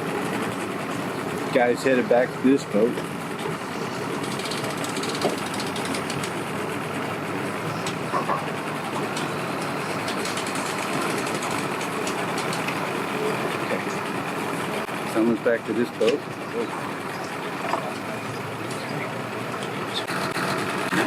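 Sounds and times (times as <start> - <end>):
engines humming: 0.0 - 21.0.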